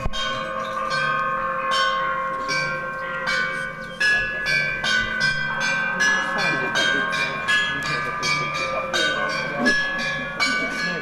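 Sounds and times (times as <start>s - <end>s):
metal sculpture bell-like strikes: 0.0s - 11.0s.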